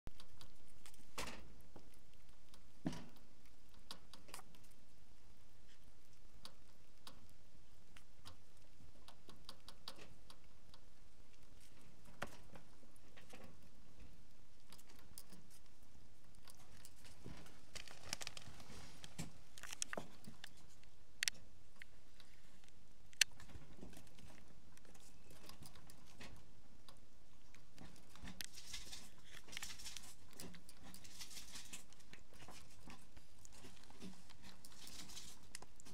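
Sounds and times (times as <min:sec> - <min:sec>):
small animal clicks and rustles: 0:00.1 - 0:35.9.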